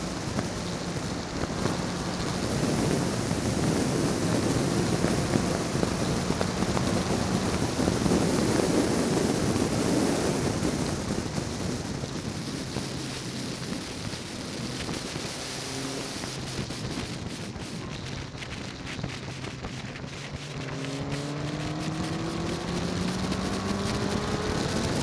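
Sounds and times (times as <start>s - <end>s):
car engine: 0.0s - 25.0s
wind buffeting microphone: 0.0s - 25.0s.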